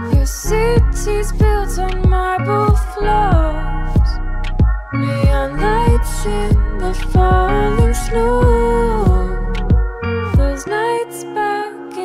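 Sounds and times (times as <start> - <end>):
song with pitch-bending melody: 0.0 - 12.0
deep bass drum hits: 0.8 - 10.5.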